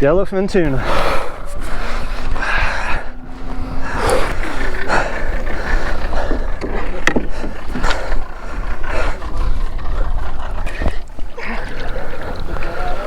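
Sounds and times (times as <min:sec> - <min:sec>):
boat engine rumble: 0:00.5 - 0:13.0
faint voices: 0:00.5 - 0:13.0.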